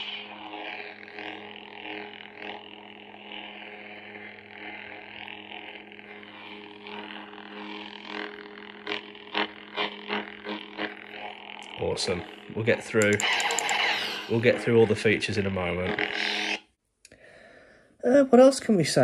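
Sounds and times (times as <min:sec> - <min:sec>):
lightsaber buzzing hum: 0:00.0 - 0:16.8.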